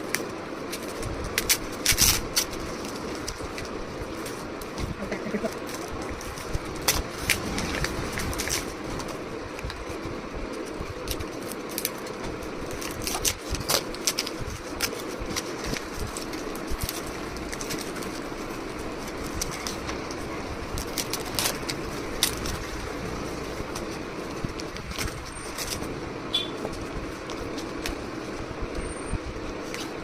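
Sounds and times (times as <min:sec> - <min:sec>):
gift packaging crinkling: 0:00.0 - 0:28.4
steady background noise: 0:00.0 - 0:30.0.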